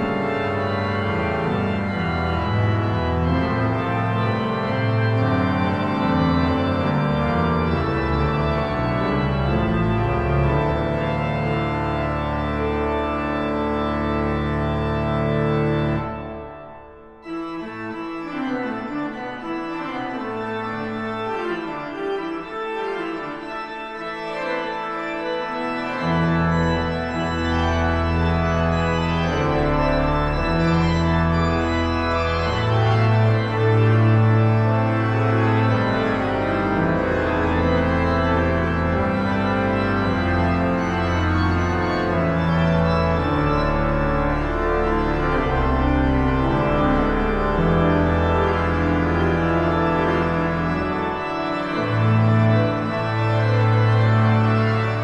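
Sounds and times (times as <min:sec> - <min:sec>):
deep organ pedal notes: 0:00.0 - 0:55.0
pipe organ playing: 0:00.0 - 0:55.0.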